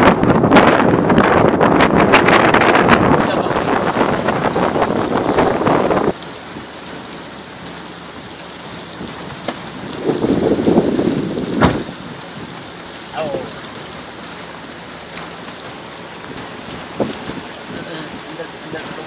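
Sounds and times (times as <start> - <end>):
thunder rumble and crack: 0.0 - 14.4, 15.0 - 19.0
heavy rain: 0.0 - 19.0.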